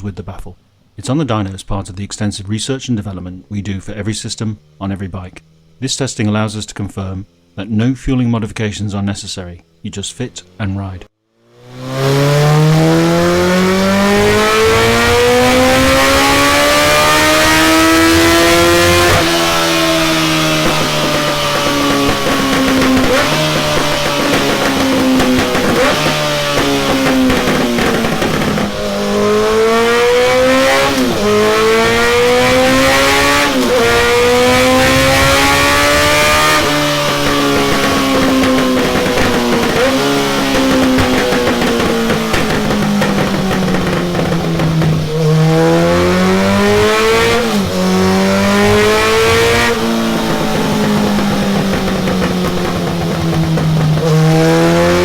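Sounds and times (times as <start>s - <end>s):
motorcycle engine revving: 9.2s - 55.0s.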